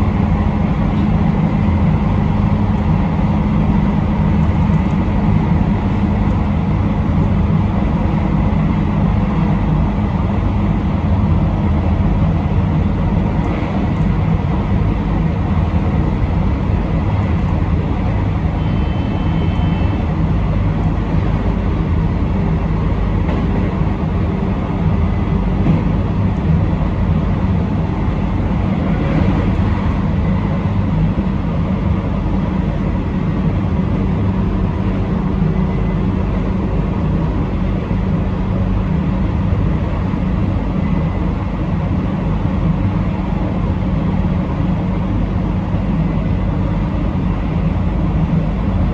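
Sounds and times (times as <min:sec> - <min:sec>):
train wheels rumbling: 0:00.0 - 0:48.8.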